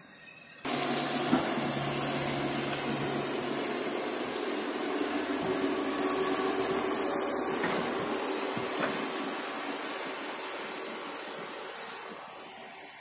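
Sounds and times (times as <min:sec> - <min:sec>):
excavator diesel engine running: 0:00.7 - 0:13.0
steady hiss: 0:00.7 - 0:13.0.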